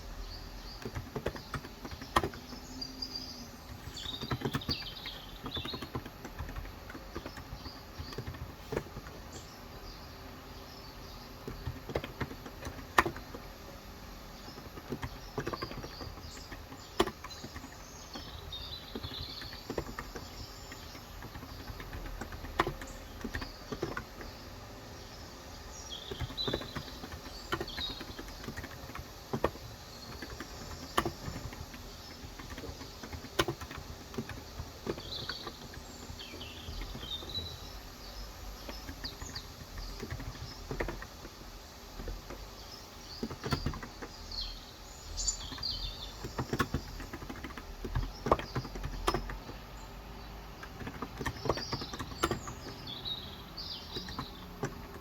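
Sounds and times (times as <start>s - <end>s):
birds chirping: 0.0s - 55.0s
keyboard keystrokes: 0.6s - 10.0s, 10.8s - 24.4s, 25.2s - 49.8s, 50.5s - 55.0s.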